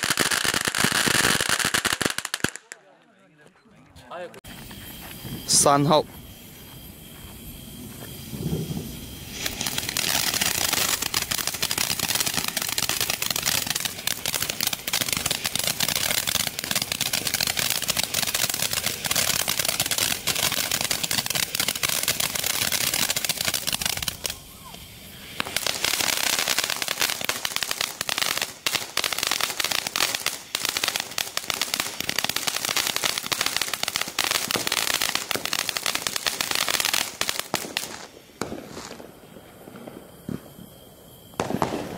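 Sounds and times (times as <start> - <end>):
fountain firework hissing and crackling: 0.0 - 2.8, 4.5 - 41.9.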